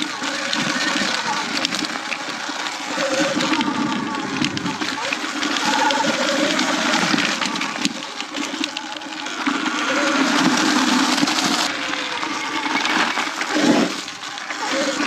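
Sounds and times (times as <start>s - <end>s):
rolling tyre noise: 0.0s - 15.0s.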